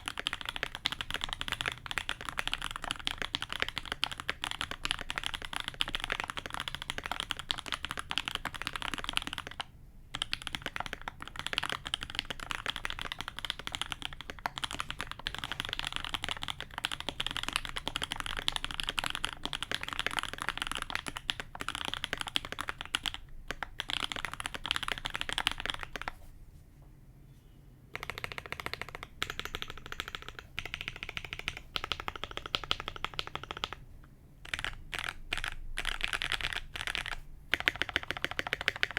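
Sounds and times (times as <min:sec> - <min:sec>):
fast typing on mechanical keyboard: 0:00.0 - 0:26.2, 0:27.9 - 0:38.9.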